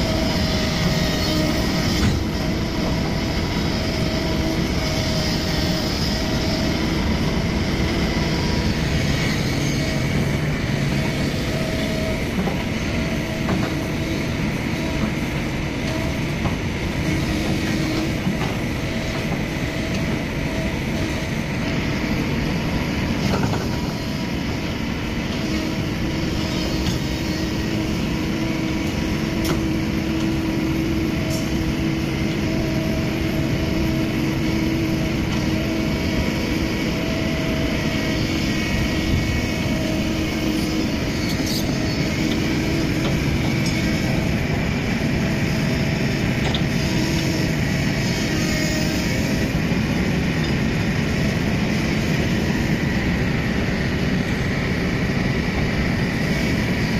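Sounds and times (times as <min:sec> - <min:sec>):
diesel engines under load: 0:00.0 - 0:56.9
hydraulic whine: 0:00.0 - 0:56.9.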